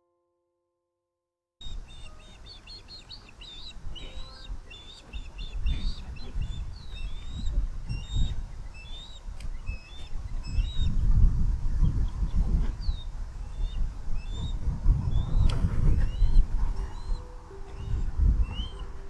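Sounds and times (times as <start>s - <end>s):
birds chirping: 1.6s - 19.0s.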